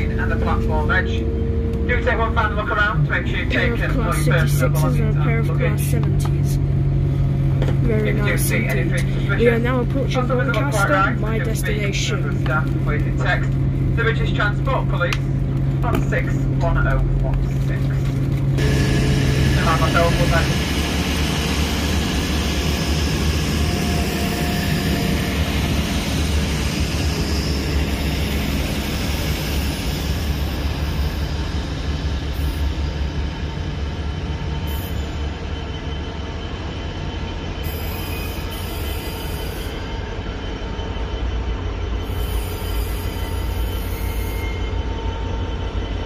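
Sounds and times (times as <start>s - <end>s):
diesel locomotive engine approaching: 0.0s - 46.0s
diesel train pulling away: 0.0s - 46.0s.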